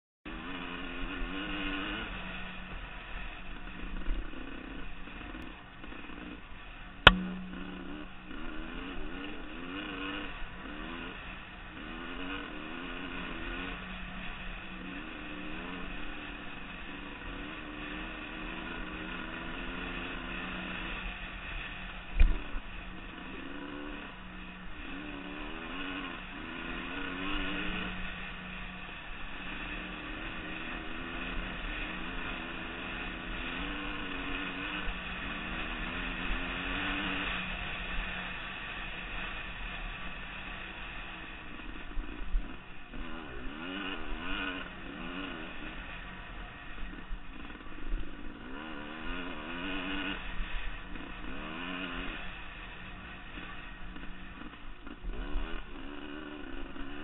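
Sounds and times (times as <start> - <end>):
dirt bike engine revving: 0.3 - 57.0.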